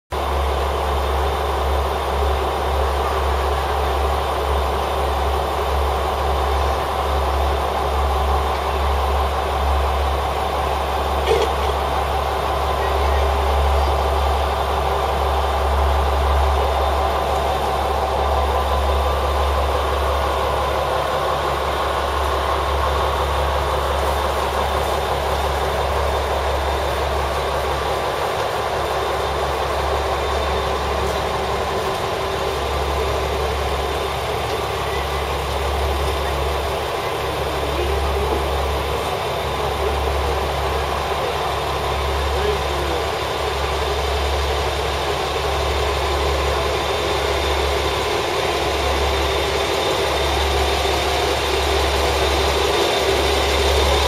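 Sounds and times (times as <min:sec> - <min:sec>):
diesel railcar engine idling: 0:00.1 - 0:54.0.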